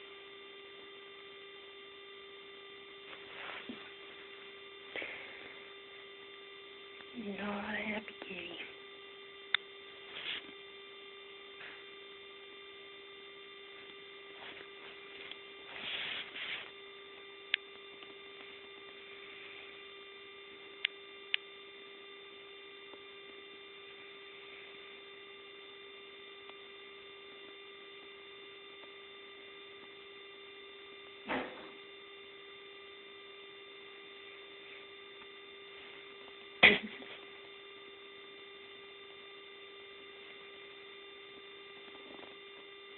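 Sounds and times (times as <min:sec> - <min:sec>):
steady electrical hum: 0:00.0 - 0:42.9.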